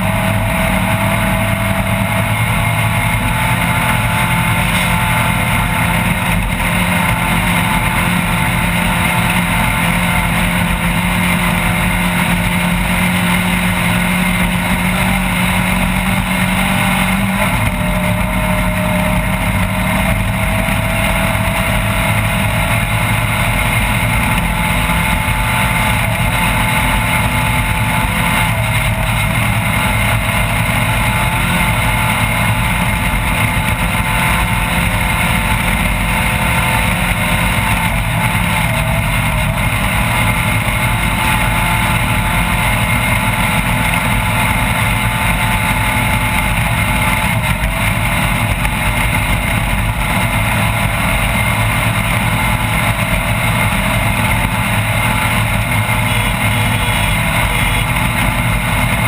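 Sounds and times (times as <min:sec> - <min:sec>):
driving noise: 0:00.0 - 0:59.0
race vehicle engine running hard: 0:00.0 - 0:59.0.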